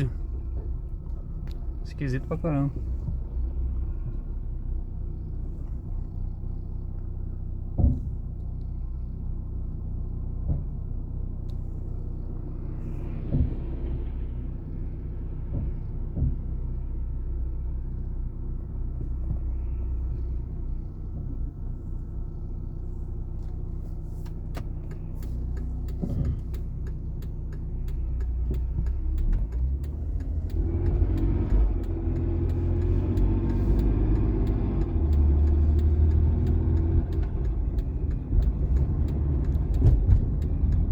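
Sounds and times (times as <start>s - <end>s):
car engine ticking clatter: 0.0s - 40.9s.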